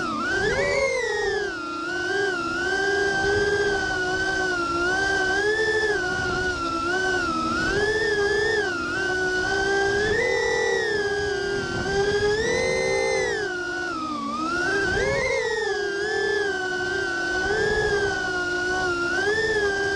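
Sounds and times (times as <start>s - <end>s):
quadcopter motors whining: 0.0s - 19.9s.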